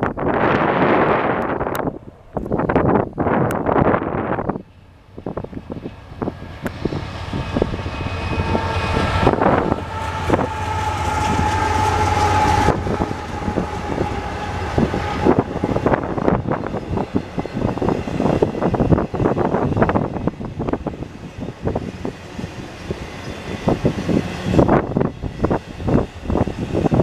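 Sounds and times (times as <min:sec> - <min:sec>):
diesel locomotives rumbling: 0:00.0 - 0:27.0.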